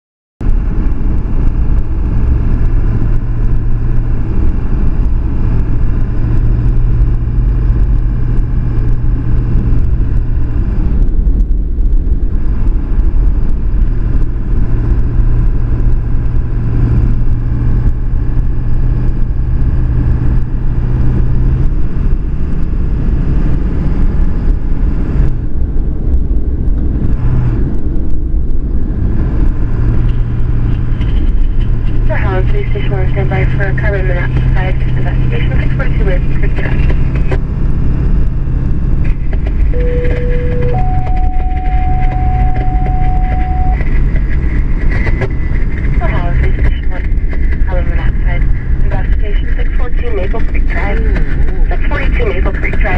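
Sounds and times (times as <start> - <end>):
low road rumble: 0.4 - 52.9
vehicle engine drone: 0.4 - 52.9.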